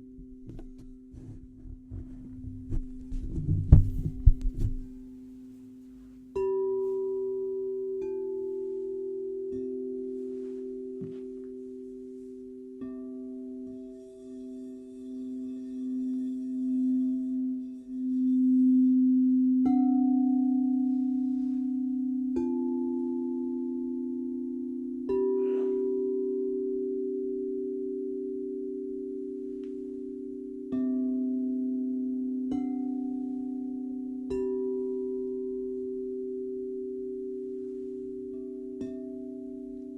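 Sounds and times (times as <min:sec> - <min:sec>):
crystal singing bowls ringing: 0:05.0 - 0:39.9.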